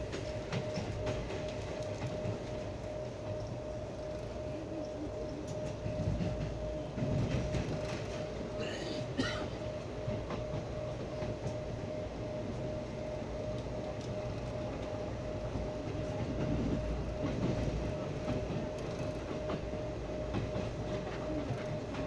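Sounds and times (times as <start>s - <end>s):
rail joint clicks: 0.0s - 22.0s
train wheels rumbling on track: 0.0s - 22.0s.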